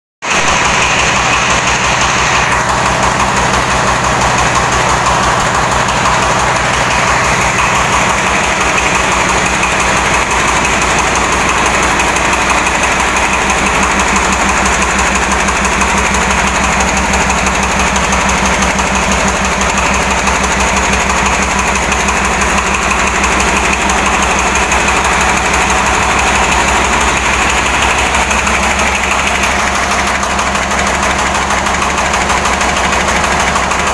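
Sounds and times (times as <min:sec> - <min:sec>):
hand tractor engine running: 0:00.2 - 0:33.9.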